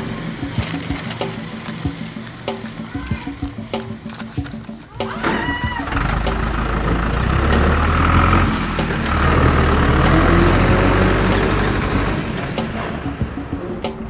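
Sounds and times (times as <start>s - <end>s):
heavy truck engine rumbling: 0.0s - 14.0s.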